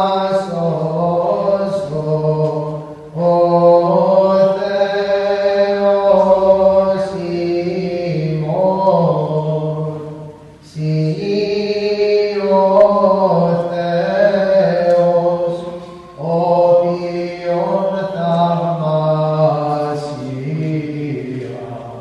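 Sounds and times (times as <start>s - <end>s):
voices chanting a hymn: 0.0s - 22.0s.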